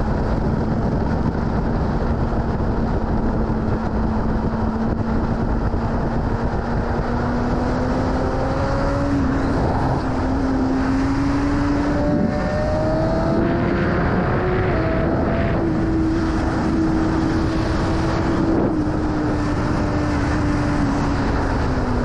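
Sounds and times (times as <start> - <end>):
motorcycle engine pulling at speed: 0.0 - 22.0
wind rush on microphone: 0.0 - 22.0.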